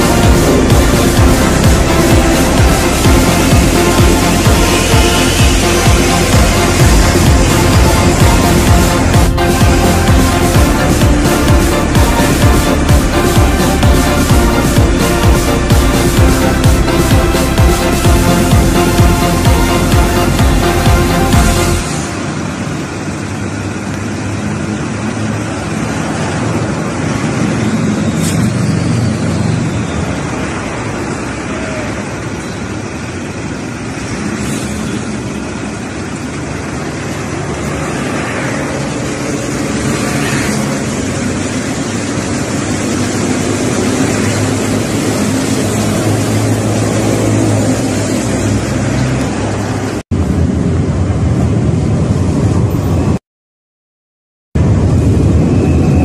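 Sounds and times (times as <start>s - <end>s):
city traffic rumble: 0.0s - 53.2s, 54.6s - 56.0s
rail noise: 0.0s - 53.2s, 54.6s - 56.0s.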